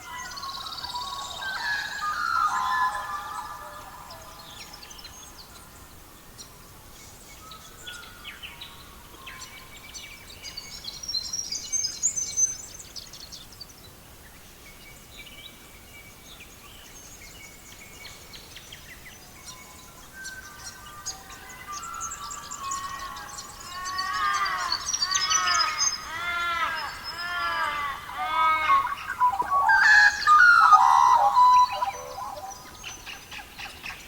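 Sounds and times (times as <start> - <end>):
faint background hiss: 0.0 - 34.0
songbirds chirping: 0.0 - 34.0.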